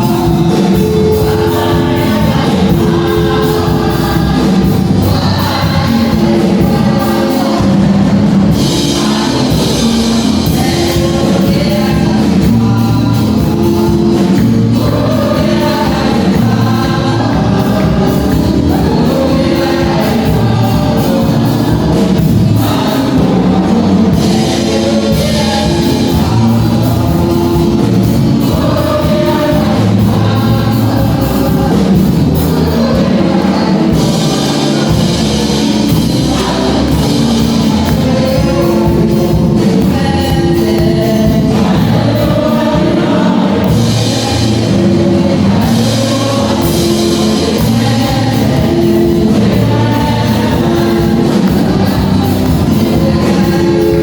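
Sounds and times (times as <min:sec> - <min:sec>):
gospel choir singing: 0:00.0 - 0:54.0
instrumental backing: 0:00.0 - 0:54.0.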